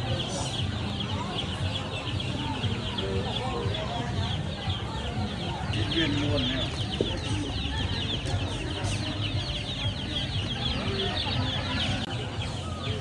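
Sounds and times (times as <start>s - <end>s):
chicks cheeping: 0.0s - 13.0s.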